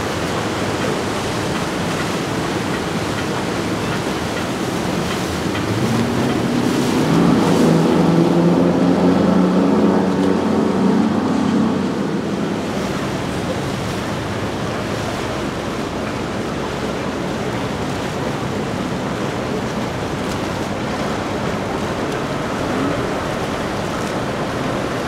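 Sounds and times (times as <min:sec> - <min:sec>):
sea water rushing: 0:00.0 - 0:25.0
wind: 0:00.0 - 0:25.0.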